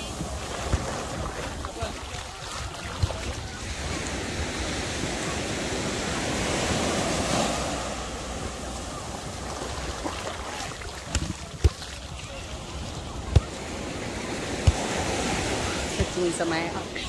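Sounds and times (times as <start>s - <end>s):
small waves washing on beach: 0.0s - 17.0s
wind rumbling on microphone: 0.0s - 17.0s.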